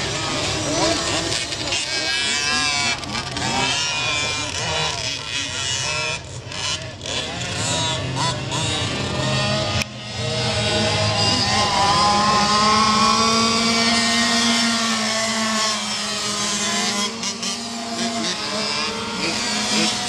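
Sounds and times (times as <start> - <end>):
dirt bike engine at high revs: 0.0 - 20.0.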